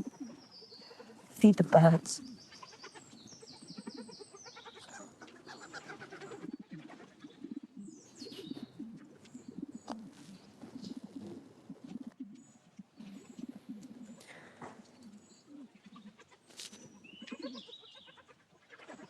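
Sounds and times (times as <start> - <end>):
pigeons cooing: 0.0 - 19.0
small birds chirping: 0.0 - 19.0.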